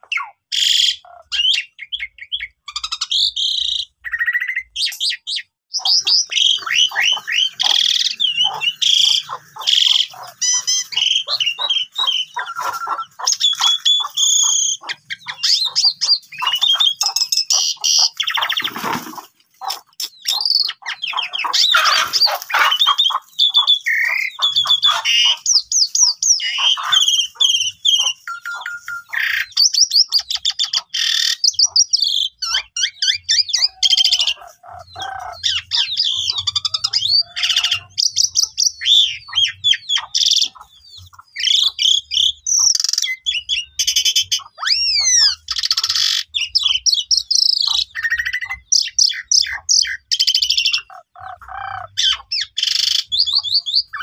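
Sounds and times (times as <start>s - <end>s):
starling singing: 0.0s - 54.0s.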